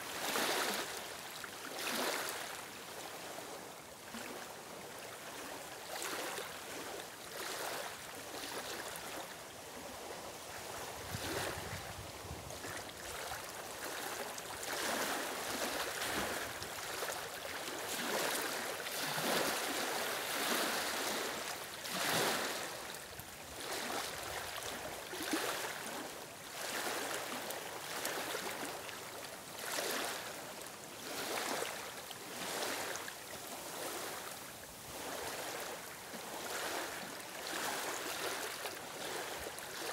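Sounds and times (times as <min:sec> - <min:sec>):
small waves lapping on stony shore: 0:00.0 - 0:39.9.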